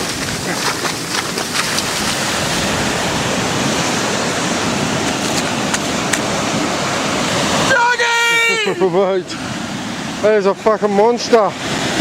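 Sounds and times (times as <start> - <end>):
ocean surf on beach: 0.0 - 12.0.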